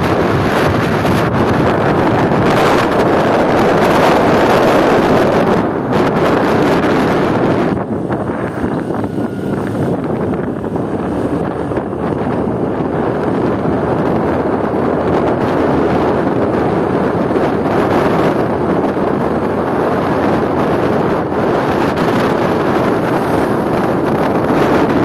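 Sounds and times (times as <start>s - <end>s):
motorcycle engine: 0.0s - 25.0s
road noise: 0.0s - 25.0s
wind rushing on microphone: 0.0s - 25.0s.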